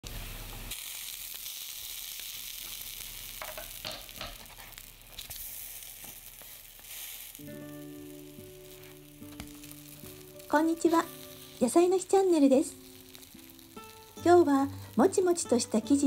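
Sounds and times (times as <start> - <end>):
buns sizzling in hot oil: 0.0 - 16.0.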